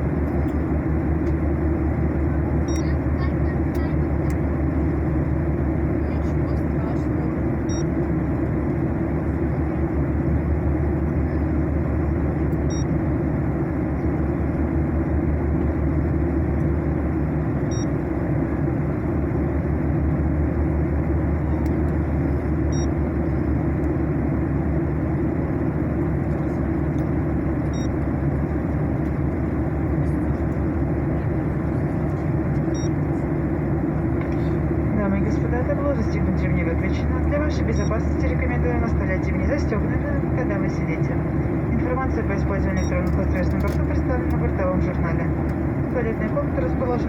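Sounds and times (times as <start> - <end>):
jet airliner cabin roar: 0.0 - 47.0.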